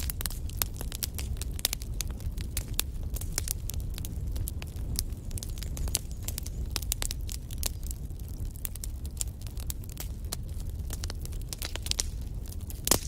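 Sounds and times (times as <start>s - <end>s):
low rumble of burning: 0.0s - 13.0s
sharp pops of fire: 0.0s - 13.0s
wood fire crackling: 0.0s - 13.0s.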